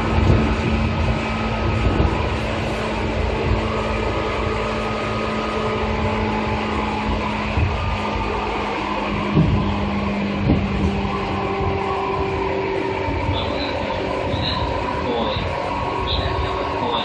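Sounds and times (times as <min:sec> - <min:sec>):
low hum from train equipment: 0:00.0 - 0:17.0
train wheels rumbling on rails: 0:00.0 - 0:17.0.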